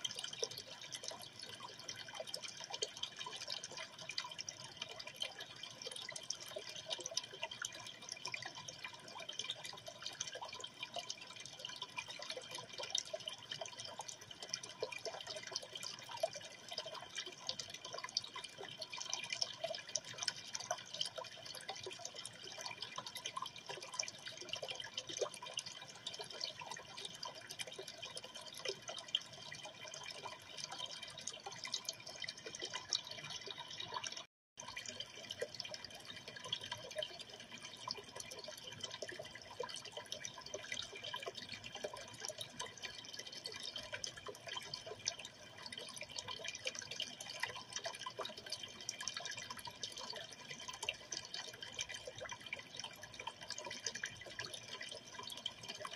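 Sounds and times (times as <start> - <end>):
water trickling and dripping: 0.0 - 55.9.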